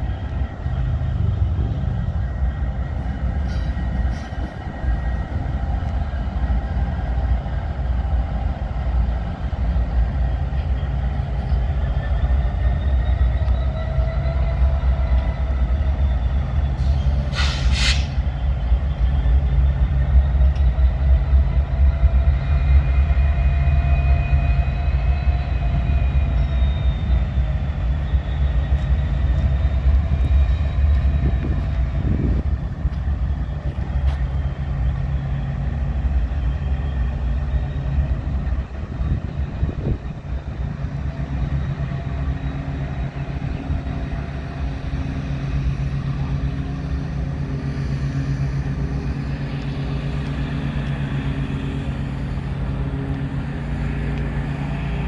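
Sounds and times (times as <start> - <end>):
diesel locomotive engine rumble: 0.0 - 55.0
wheels rolling on rail: 0.0 - 55.0.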